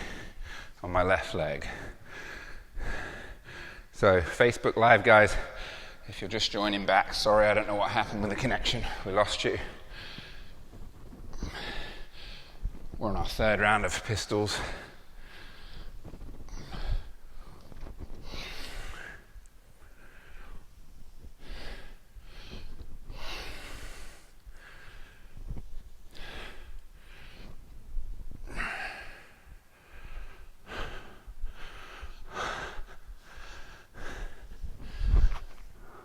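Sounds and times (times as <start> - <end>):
person breathing heavily: 0.0 - 4.4, 5.2 - 6.1, 8.8 - 13.0, 14.5 - 27.8, 28.4 - 36.0.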